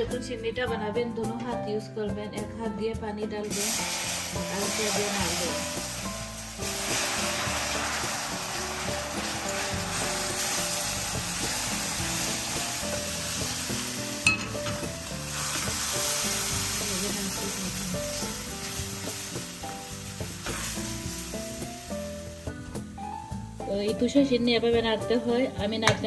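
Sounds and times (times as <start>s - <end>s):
water sizzling in hot pan: 3.4s - 25.3s.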